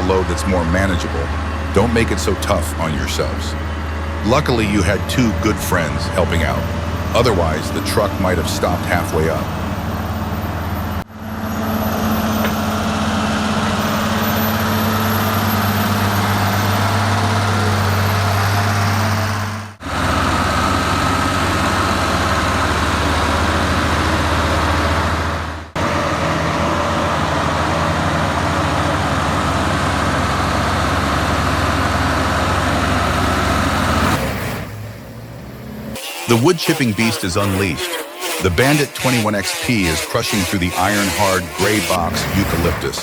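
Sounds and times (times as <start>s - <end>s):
heavy truck engine droning: 0.0s - 37.8s, 38.4s - 43.0s.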